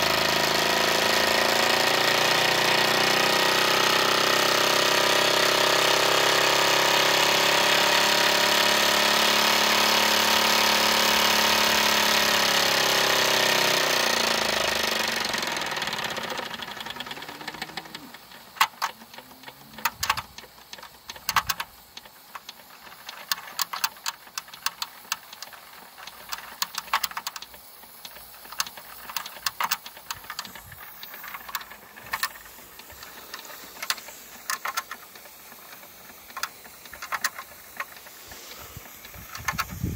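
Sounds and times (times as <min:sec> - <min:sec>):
toy steam engine running: 0:00.0 - 0:39.9.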